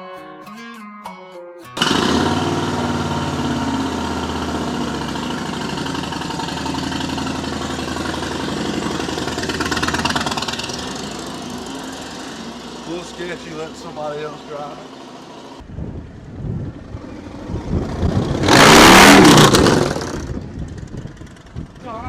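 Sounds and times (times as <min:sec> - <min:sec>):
motorcycle engine running: 0:01.8 - 0:22.0.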